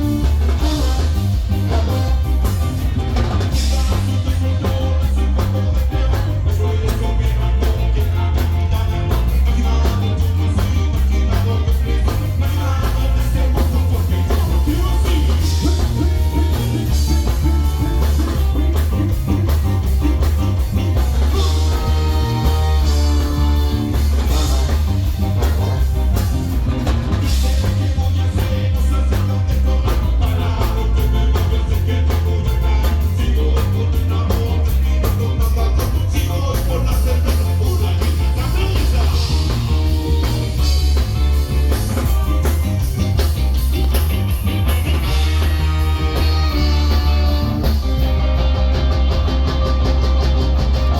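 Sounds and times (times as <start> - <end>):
person singing: 0.0 - 43.4
live ska band playing: 0.0 - 50.9.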